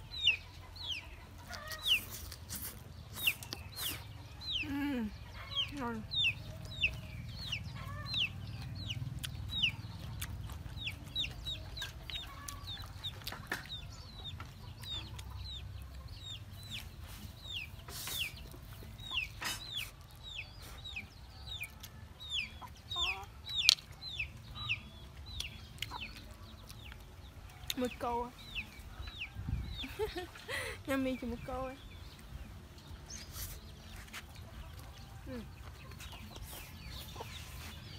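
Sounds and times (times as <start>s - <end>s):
chickens chirping: 0.0s - 37.9s.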